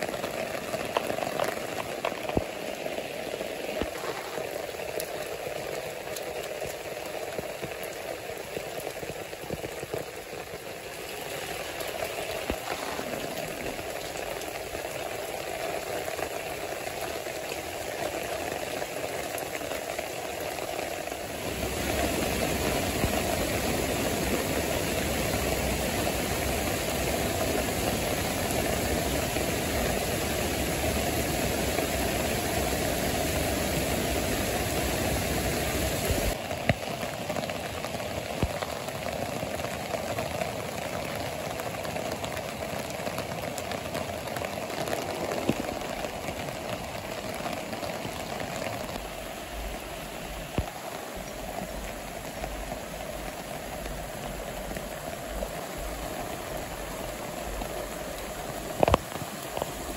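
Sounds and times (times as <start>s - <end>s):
rain on wet path and foliage: 0.0s - 59.9s
stream rushing over rocks: 0.0s - 59.9s.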